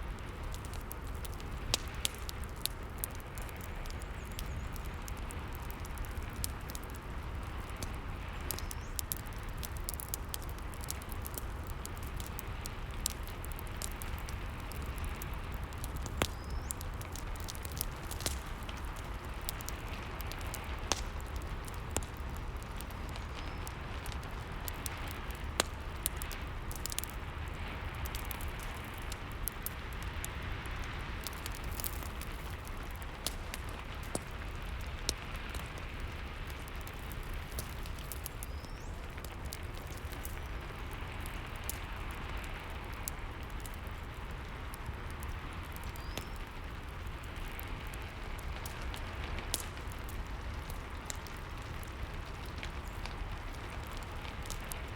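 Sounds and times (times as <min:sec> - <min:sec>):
fireplace crackling: 0:00.0 - 0:54.9
steady rain hiss: 0:00.0 - 0:54.9.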